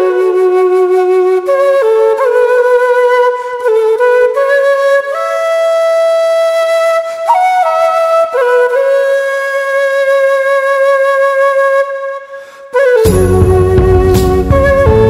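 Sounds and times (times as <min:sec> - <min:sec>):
flute playing slow melody: 0:00.0 - 0:15.0.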